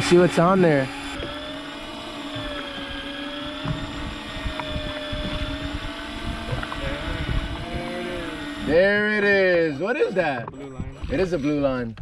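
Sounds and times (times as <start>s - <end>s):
electric fishing reel motor whine: 0.0s - 12.0s.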